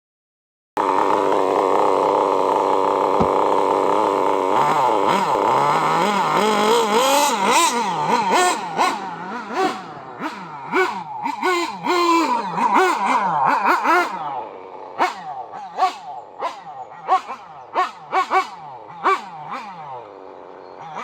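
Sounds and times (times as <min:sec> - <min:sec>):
remote control car motor revving: 0:00.8 - 0:21.0.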